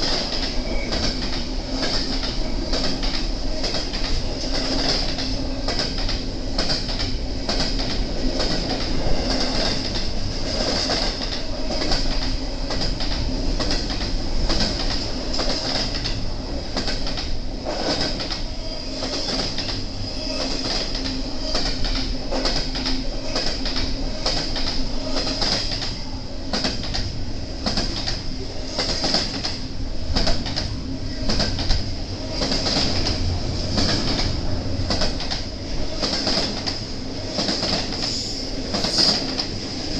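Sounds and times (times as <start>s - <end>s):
freight train wheels clicking: 0.0s - 39.9s
train rumble: 0.0s - 39.9s.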